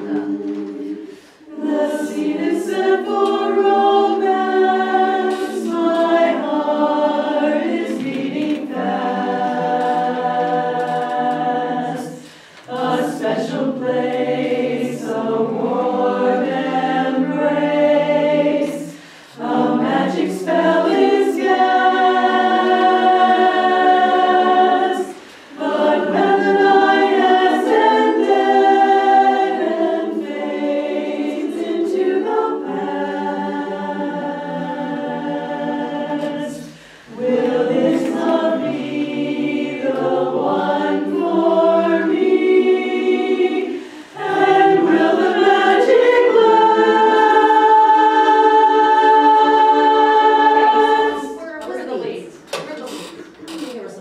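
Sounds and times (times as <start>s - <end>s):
women's chorus singing a cappella: 0.0s - 53.1s.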